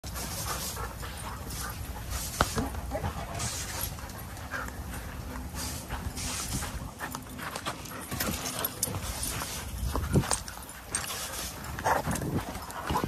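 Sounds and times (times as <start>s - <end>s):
dogs panting and scuffling: 0.0s - 13.0s.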